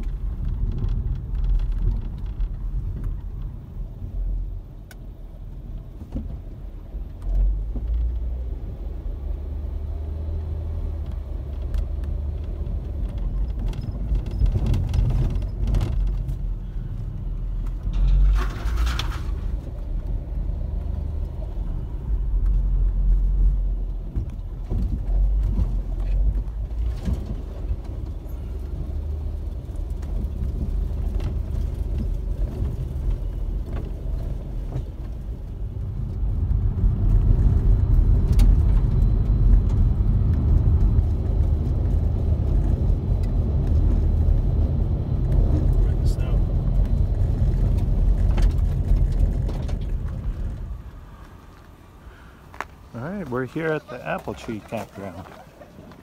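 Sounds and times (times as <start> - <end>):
knocks and rattles over bumps: 0.0 - 8.5, 9.9 - 51.8
vehicle cabin road rumble: 0.0 - 56.0.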